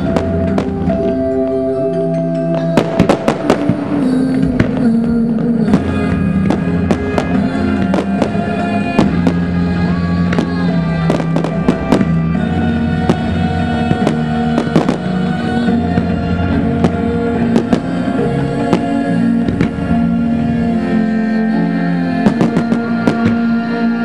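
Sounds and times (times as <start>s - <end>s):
fireworks bangs and crackles: 0.0s - 1.7s, 2.5s - 24.0s
music with long held notes: 0.0s - 24.0s.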